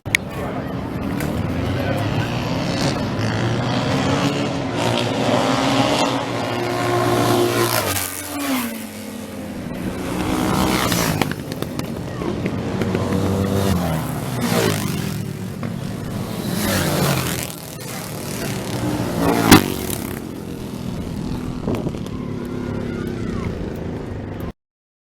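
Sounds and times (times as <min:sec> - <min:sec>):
racing motorcycles passing at high revs: 0:00.1 - 0:24.4.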